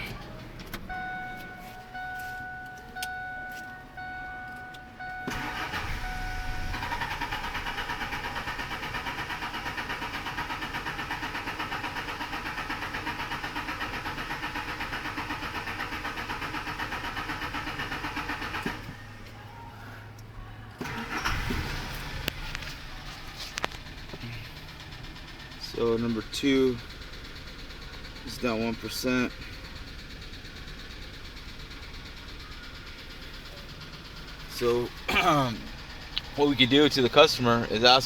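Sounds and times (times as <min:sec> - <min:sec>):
starter cranking engine: 0:05.1 - 0:19.3, 0:20.8 - 0:38.0.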